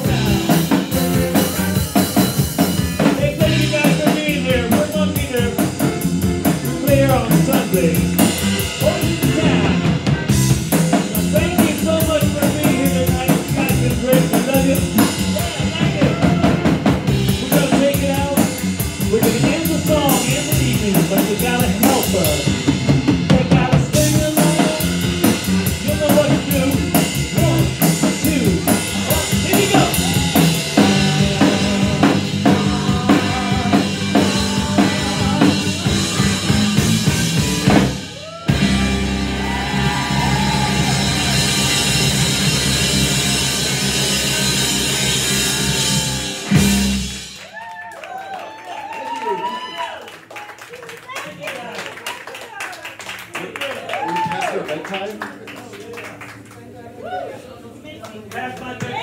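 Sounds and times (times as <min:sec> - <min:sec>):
electric guitar: 0:00.0 - 0:47.6
drum kit beat: 0:00.0 - 0:47.8
rock band playing: 0:00.0 - 0:48.4.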